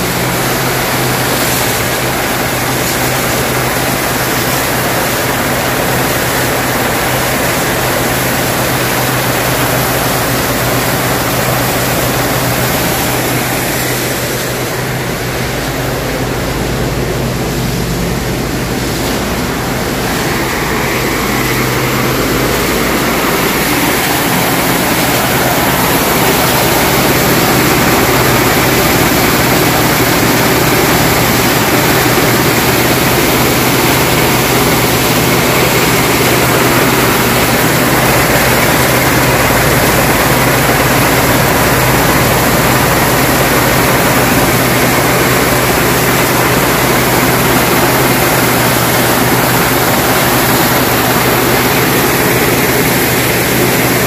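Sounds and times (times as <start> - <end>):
low motor hum: 0.0 - 54.0
machinery rushing noise: 0.0 - 54.0.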